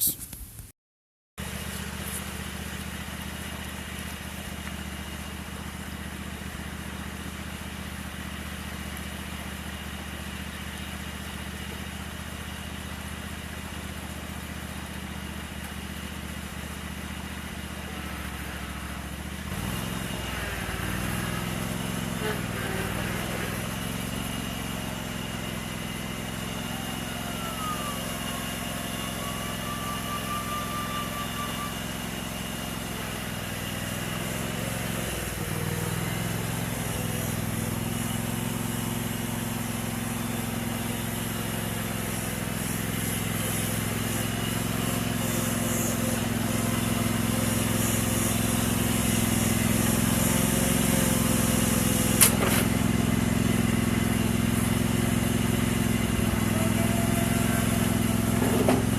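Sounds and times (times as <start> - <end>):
riding lawn mower engine: 1.4 - 58.9.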